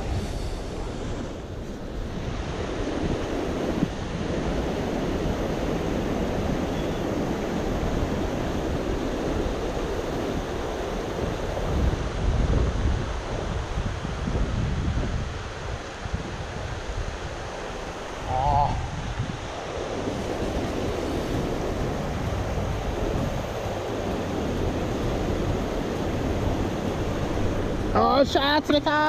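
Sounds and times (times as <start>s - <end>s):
stream water rushing: 0.0s - 29.0s
wind buffeting microphone: 0.0s - 29.0s.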